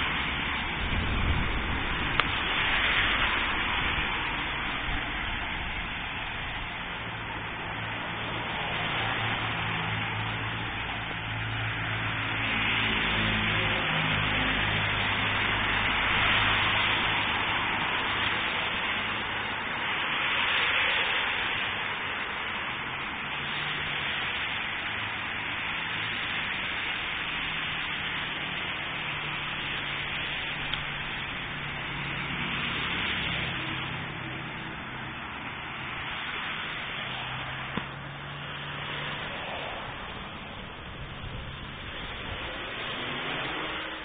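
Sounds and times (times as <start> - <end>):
cars passing on wet road: 0.0 - 44.0
rain hissing on a street: 0.0 - 44.0.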